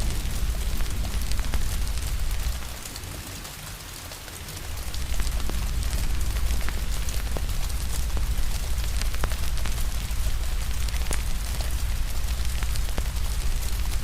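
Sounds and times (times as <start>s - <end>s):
deep low rumble: 0.0s - 3.2s, 4.6s - 14.0s
rain hiss: 0.0s - 14.0s
wood fire crackling: 0.0s - 14.0s.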